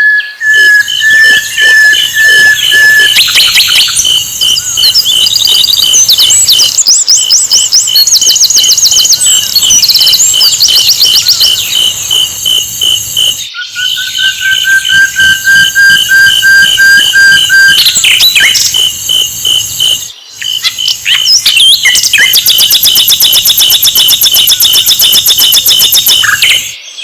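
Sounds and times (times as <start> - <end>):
bird trilling: 0.0 - 26.8
long high whistling tone: 0.0 - 26.8
pulsing chirp: 0.0 - 26.8.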